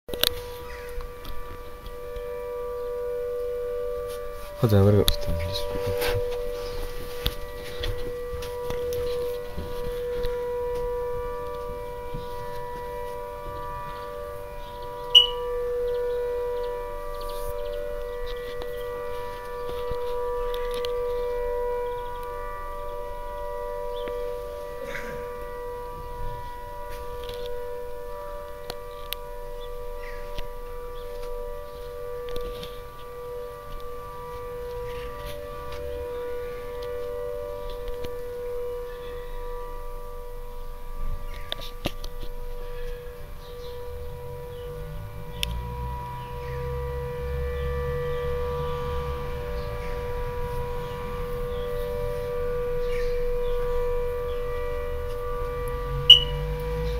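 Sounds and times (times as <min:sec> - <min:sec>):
two-note air raid siren: 0:00.1 - 0:56.9.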